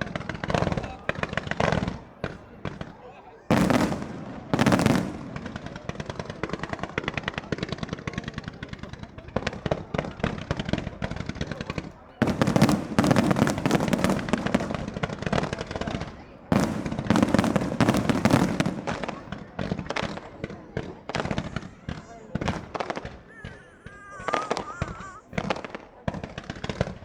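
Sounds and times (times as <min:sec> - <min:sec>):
fireworks bursts: 0:00.0 - 0:27.0
fireworks crackling: 0:00.0 - 0:27.0.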